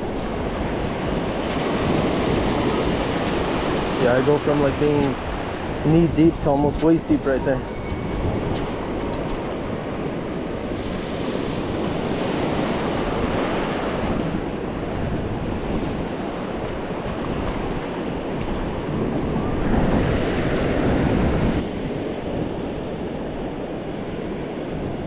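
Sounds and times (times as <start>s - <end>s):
ocean surf breaking: 0.0s - 21.6s
wind buffeting microphone: 0.0s - 21.6s.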